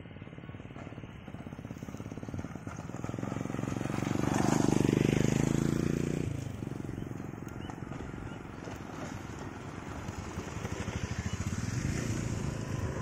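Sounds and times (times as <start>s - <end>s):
motorcycle passing: 0.0s - 13.0s.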